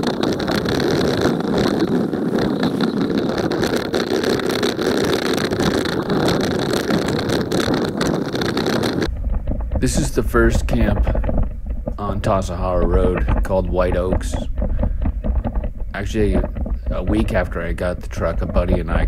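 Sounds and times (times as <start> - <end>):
truck engine and tyres rumbling: 0.0 - 19.0
wind on microphone: 0.0 - 19.0.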